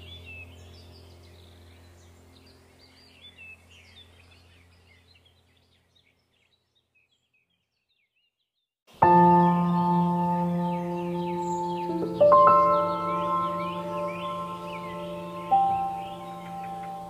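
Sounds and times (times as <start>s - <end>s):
low steady hum: 0.0s - 6.6s, 9.0s - 17.0s
songbirds chirping: 0.0s - 17.0s.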